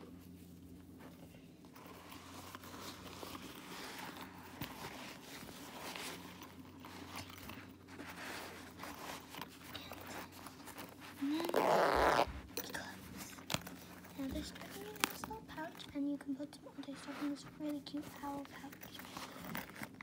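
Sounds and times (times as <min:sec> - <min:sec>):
fabric pouch rustling: 0:00.0 - 0:16.2, 0:16.8 - 0:20.0
light clicks and scrapes: 0:00.0 - 0:20.0.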